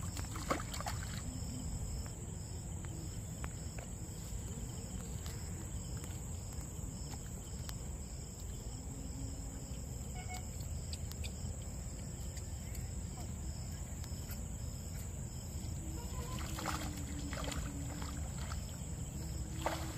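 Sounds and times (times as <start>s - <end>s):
insects chirring: 0.0s - 19.9s
low outdoor rumble: 0.0s - 19.9s
pulsing insect call: 0.0s - 19.9s.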